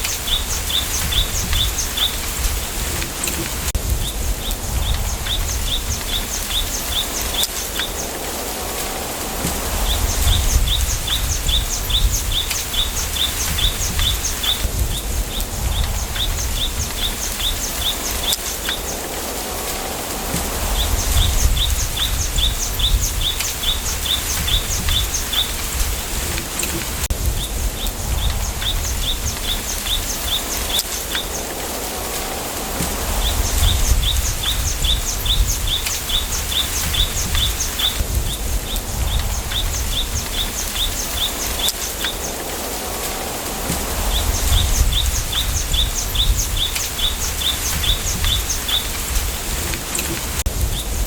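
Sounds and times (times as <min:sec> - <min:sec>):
wind rustling bamboo: 0:00.0 - 0:51.0.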